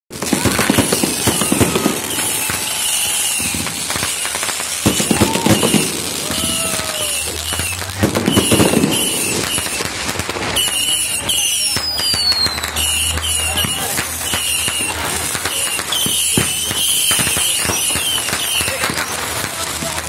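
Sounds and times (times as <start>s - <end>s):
fireworks crackling and popping: 0.1s - 20.0s.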